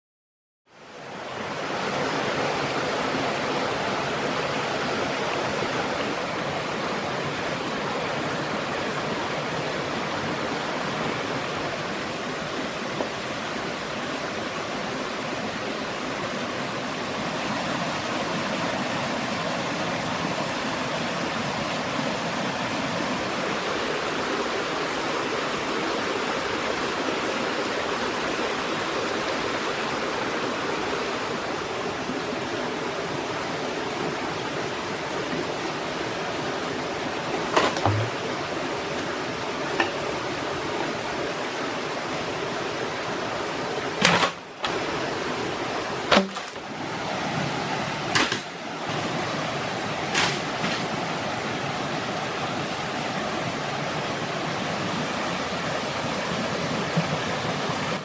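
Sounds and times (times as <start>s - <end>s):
small waterfall: 0.7s - 58.0s
stream rushing over rocks: 0.7s - 58.0s.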